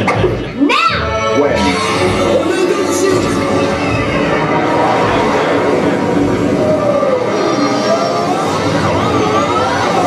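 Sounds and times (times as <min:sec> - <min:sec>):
cartoon music over loudspeakers: 0:00.0 - 0:10.0.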